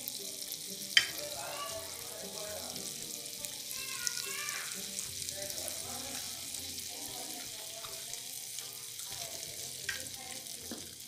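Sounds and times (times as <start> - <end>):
butter and oil sizzling: 0.0 - 11.0.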